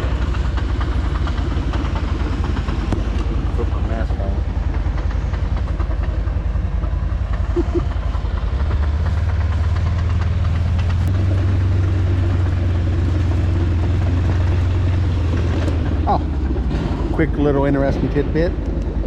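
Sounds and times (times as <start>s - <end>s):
heavy machine engine rumble: 0.0s - 19.0s.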